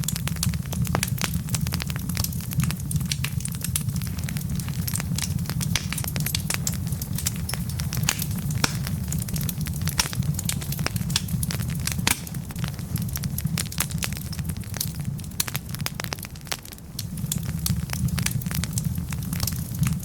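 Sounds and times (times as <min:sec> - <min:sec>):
fire low rumble: 0:00.0 - 0:20.0
logs crackling in a fireplace: 0:00.0 - 0:20.0.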